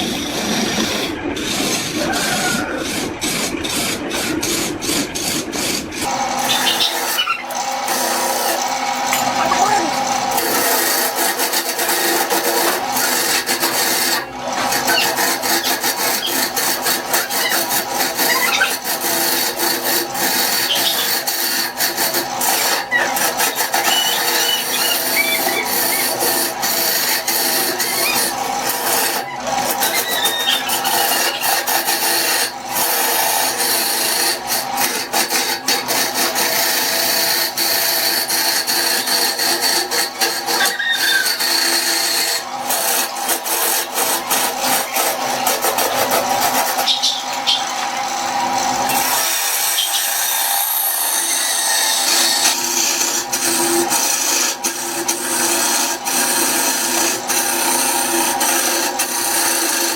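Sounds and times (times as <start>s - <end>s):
woodworking tools scraping wood: 0.0s - 59.9s.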